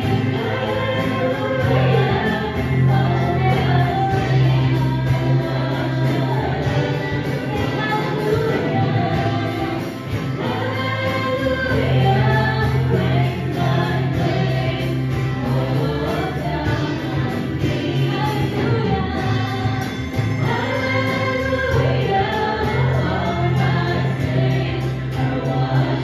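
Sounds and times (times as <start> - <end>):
acoustic guitar: 0.0 - 26.0
group singing praise song: 0.0 - 26.0.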